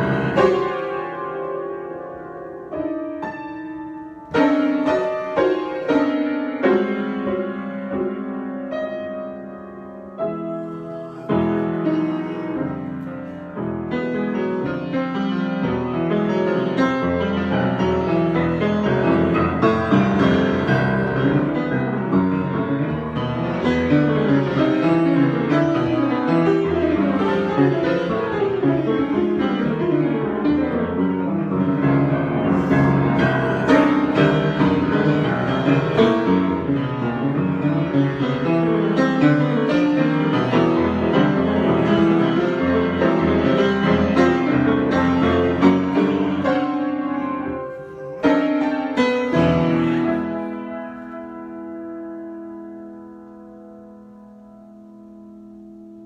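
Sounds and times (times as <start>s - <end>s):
improvised piano playing: 0.0s - 56.0s.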